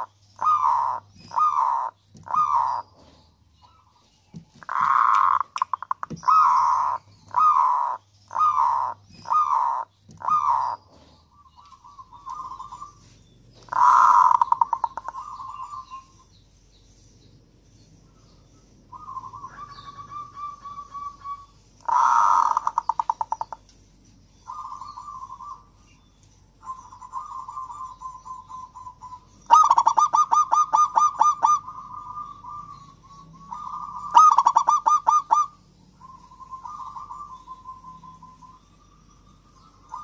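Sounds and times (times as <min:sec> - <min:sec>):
dove cooing: 0:00.0 - 0:03.2, 0:04.6 - 0:13.0, 0:13.6 - 0:16.2, 0:18.9 - 0:23.6, 0:24.5 - 0:25.8, 0:26.6 - 0:38.8.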